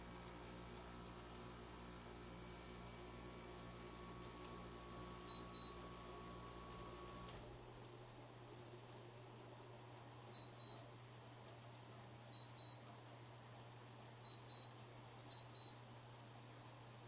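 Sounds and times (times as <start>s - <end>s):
air conditioner hum: 0.0s - 17.0s.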